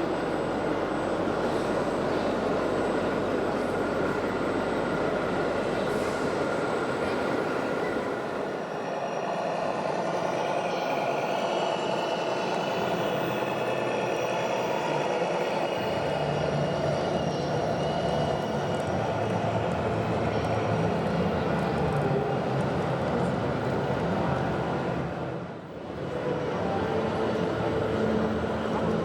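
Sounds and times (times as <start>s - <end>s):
low engine-like hum: 0.0s - 9.0s, 10.4s - 29.0s.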